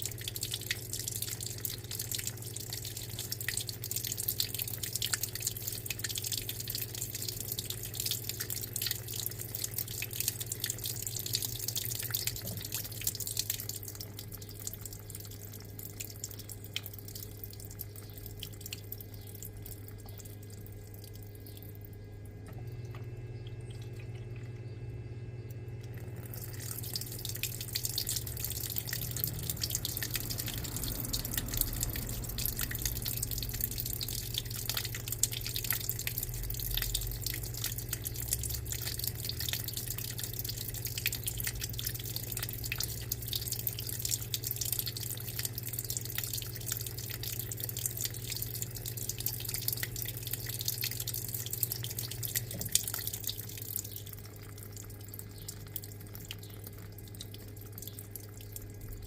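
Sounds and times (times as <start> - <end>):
water splashing in washing machine: 0.0 - 24.6, 25.8 - 59.0
washing machine hum: 0.0 - 59.0.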